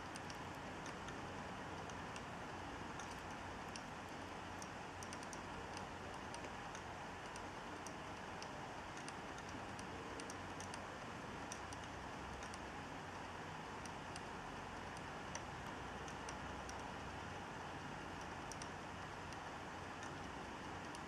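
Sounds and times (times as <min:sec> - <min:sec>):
hard disk drive clicking: 0:00.0 - 0:21.0.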